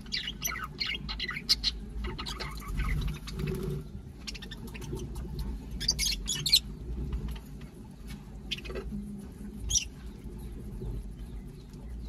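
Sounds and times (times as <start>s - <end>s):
birds pecking and nibbling: 0.0s - 12.0s.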